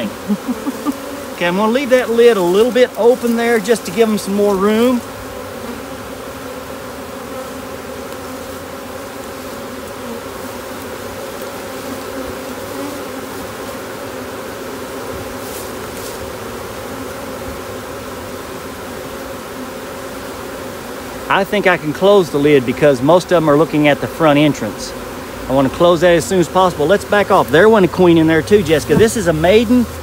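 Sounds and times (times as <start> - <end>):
honey bees buzzing: 0.0 - 30.0.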